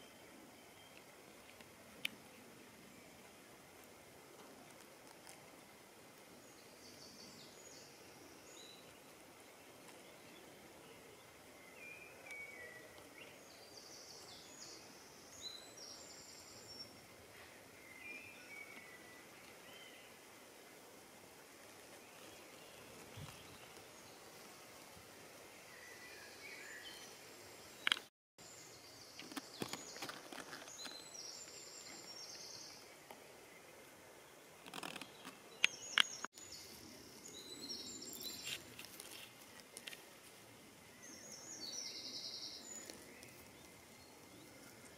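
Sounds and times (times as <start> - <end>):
faint birdsong: 0.0 - 44.9.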